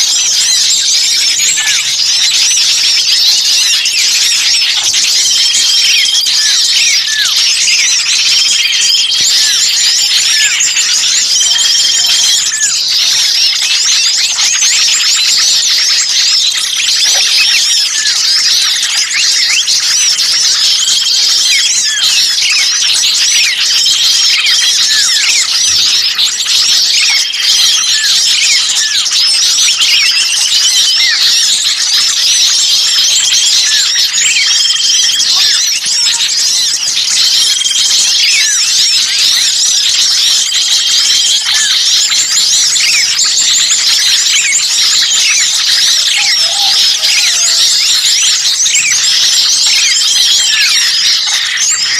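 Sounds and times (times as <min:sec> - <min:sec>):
songbirds chirping and squeaking: 0:00.0 - 0:51.9.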